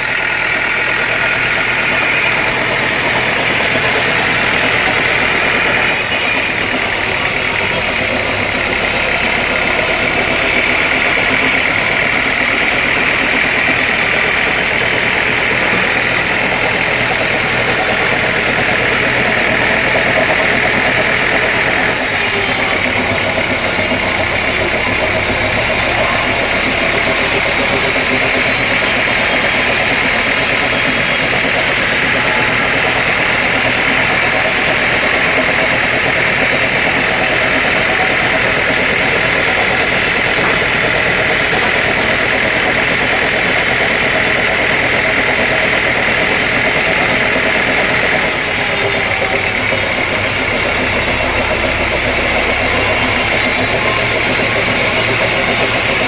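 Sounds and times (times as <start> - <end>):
high machine whine: 0.0 - 56.0
sawmill machinery drone: 0.0 - 56.0.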